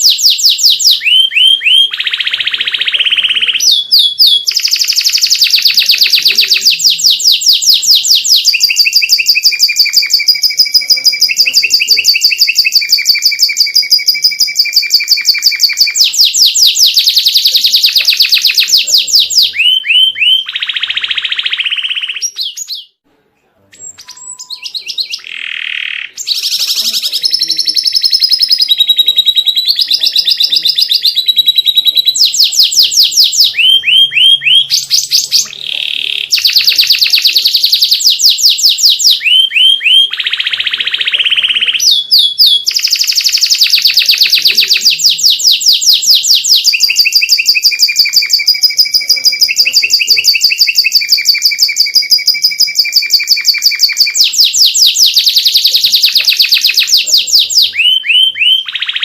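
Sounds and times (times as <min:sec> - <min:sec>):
canary singing trills: 0:00.0 - 0:23.0, 0:23.6 - 0:59.0.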